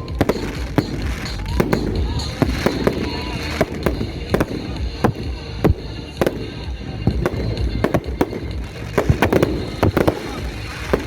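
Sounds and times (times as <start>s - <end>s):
fireworks bangs and cracks: 0.0s - 11.0s
music playing: 0.0s - 11.0s.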